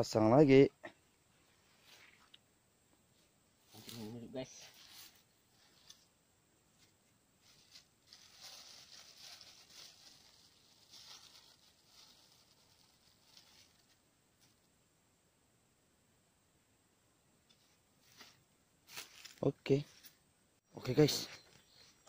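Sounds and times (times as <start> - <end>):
faint rustling outdoors: 0.0 - 22.0.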